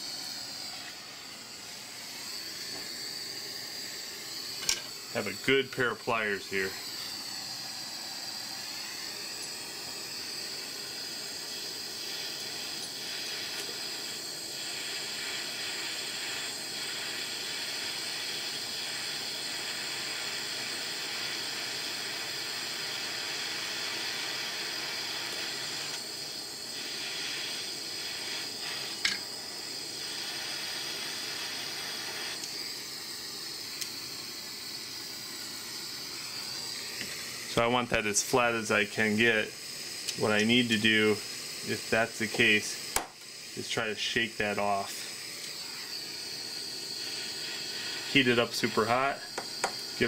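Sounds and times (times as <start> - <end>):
butane torch hissing: 0.0 - 50.0.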